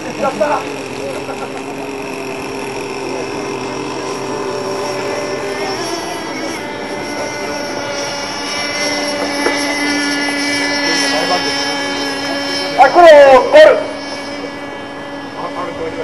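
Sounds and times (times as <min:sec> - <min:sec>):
model power boat engines whining: 0:00.0 - 0:16.0.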